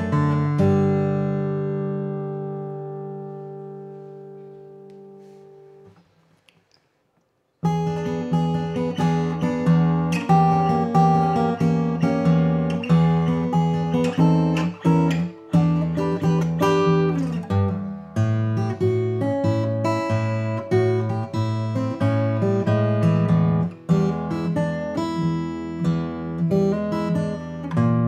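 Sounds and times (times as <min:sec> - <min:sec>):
acoustic guitar playing: 0:00.0 - 0:06.4, 0:07.6 - 0:28.0.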